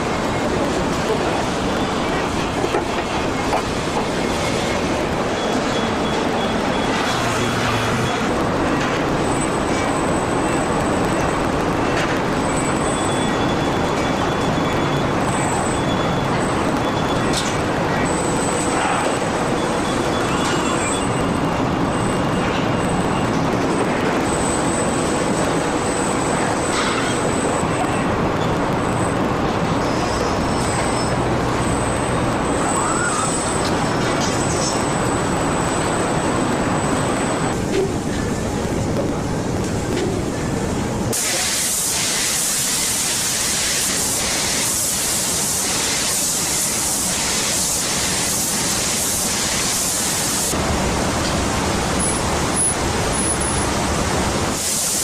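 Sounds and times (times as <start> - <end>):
assembly-line machinery din: 0.0 - 55.0.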